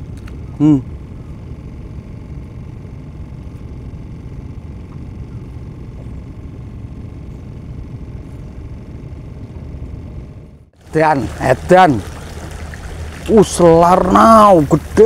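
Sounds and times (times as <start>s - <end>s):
boat low rumble: 0.0s - 15.0s
faint even hum: 0.0s - 15.0s.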